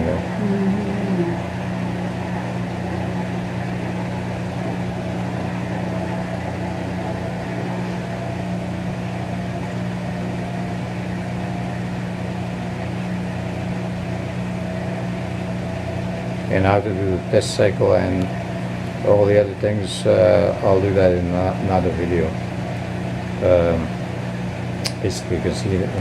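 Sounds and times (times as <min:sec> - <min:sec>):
washing machine motor hum: 0:00.0 - 0:26.0.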